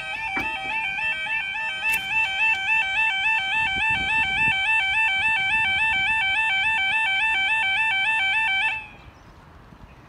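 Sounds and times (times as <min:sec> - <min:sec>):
two-tone warbling crossing alarm: 0:00.0 - 0:09.1.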